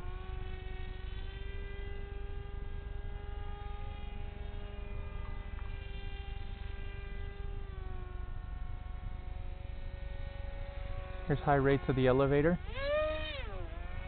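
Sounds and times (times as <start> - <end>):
electric motor and propeller whining: 0.0 - 14.0.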